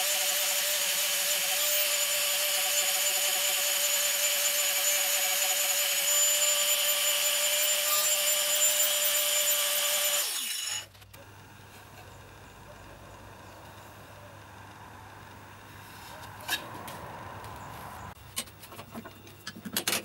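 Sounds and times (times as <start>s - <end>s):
angle grinder cutting wood: 0.0s - 18.2s.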